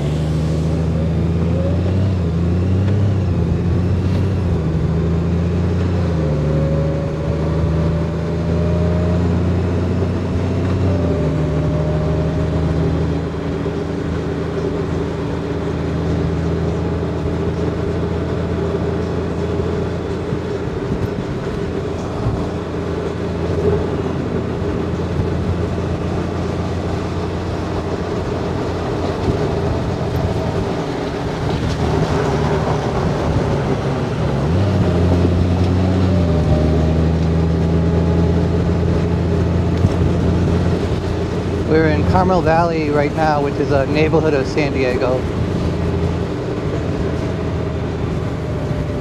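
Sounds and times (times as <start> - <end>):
wind and road noise: 0.0 - 49.0
motorcycle engine running: 7.2 - 49.0.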